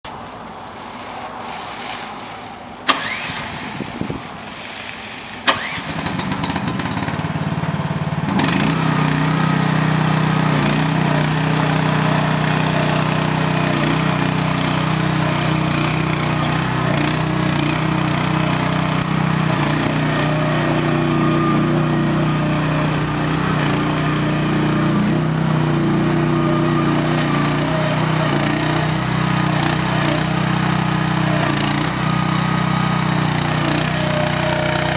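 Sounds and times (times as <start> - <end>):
mini excavator engine running: 0.1 - 34.9.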